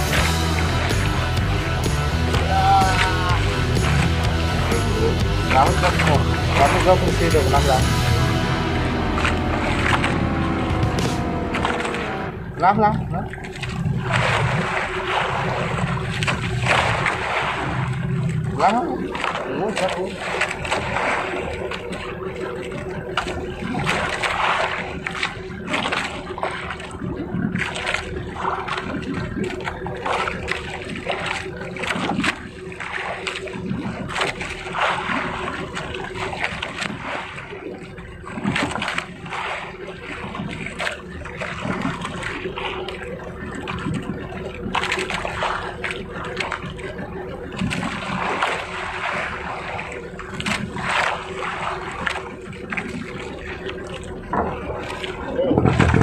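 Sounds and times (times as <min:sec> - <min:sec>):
boat engine drone: 0:00.0 - 0:56.0
water splashing against boat hull: 0:00.0 - 0:56.0.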